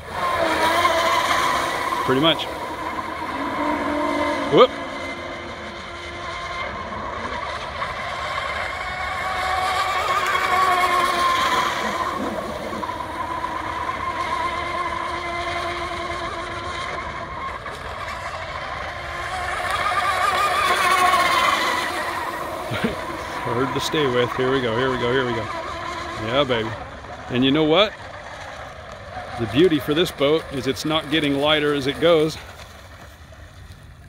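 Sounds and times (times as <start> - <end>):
rc boat motor whine: 0.0 - 34.0.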